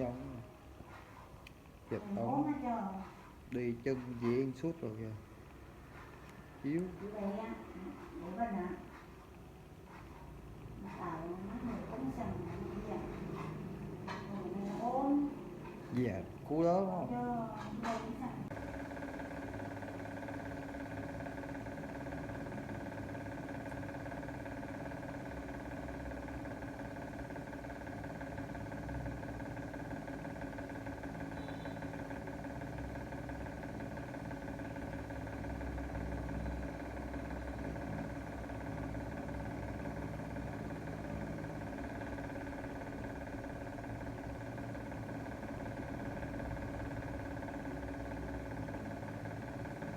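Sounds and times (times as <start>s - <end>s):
motor humming steadily: 0.0s - 49.9s.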